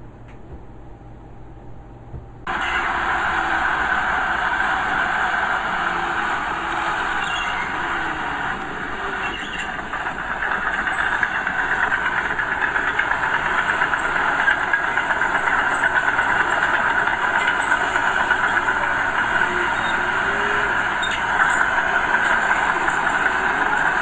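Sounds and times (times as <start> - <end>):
diesel engine knocking clatter: 2.5 - 24.0.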